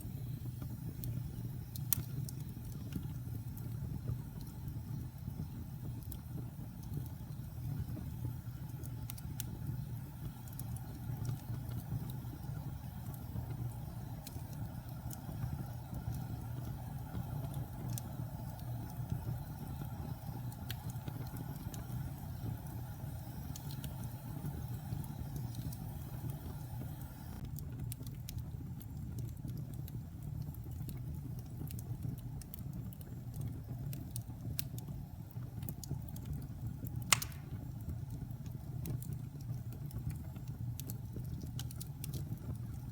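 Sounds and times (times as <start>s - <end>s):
fire popping: 0.0s - 42.9s
fire rumbling and crackling: 0.0s - 42.9s.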